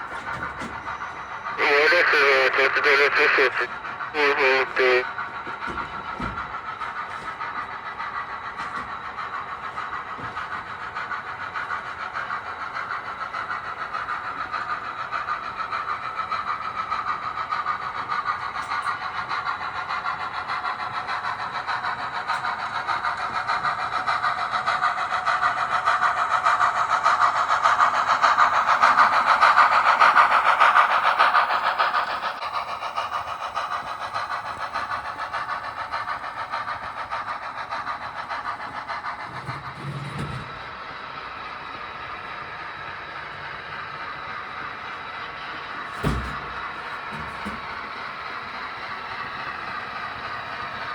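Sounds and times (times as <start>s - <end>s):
train wheel clatter: 0.0s - 50.9s
model train motor hum: 1.0s - 50.9s.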